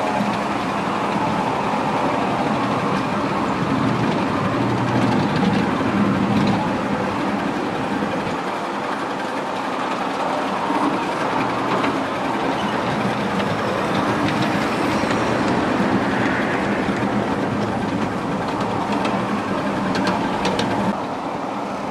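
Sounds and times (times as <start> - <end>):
clicks over rail joints: 0.0 - 21.0
train wheels rumbling on rails: 0.0 - 21.9.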